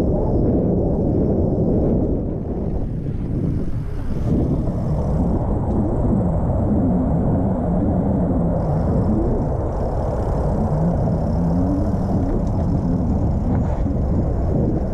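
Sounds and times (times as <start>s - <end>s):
wind rumbling over microphone: 0.0s - 14.9s.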